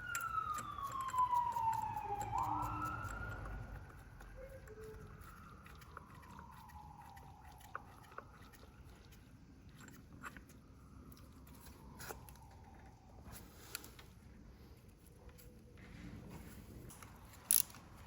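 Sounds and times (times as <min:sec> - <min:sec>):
faint siren wailing: 0:00.0 - 0:18.0.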